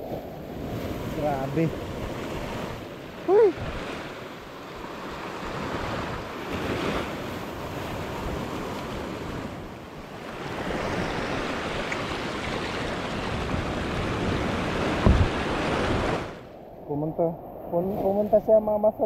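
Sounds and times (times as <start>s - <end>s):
sea surf breaking over rocks: 0.0s - 16.6s.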